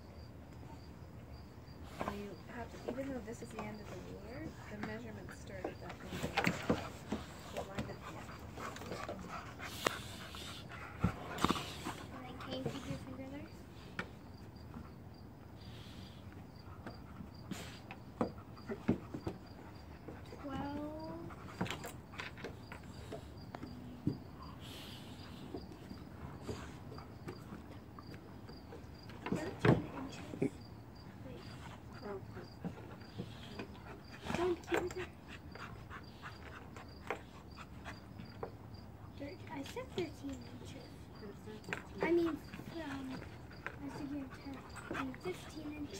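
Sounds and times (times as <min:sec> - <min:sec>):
crickets chirping: 0:00.0 - 0:45.9
dogs scuffling on wooden deck: 0:01.8 - 0:45.9.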